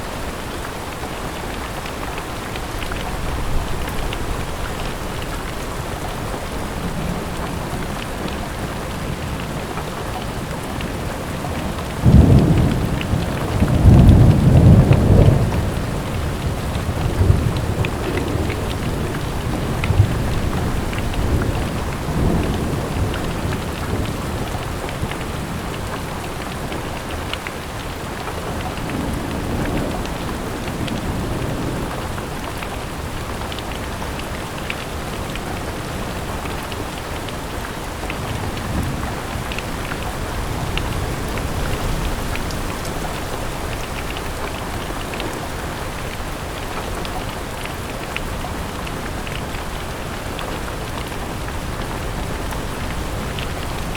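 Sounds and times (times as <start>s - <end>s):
steady rain falling: 0.0s - 53.9s
rain drop ticks: 0.2s - 53.9s
low rumble of thunder: 2.4s - 27.1s, 27.8s - 53.9s.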